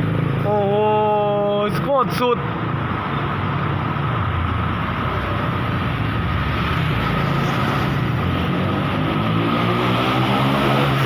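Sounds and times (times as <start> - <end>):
vehicle engine rumble: 0.0 - 9.8
road and wind noise: 0.0 - 11.0.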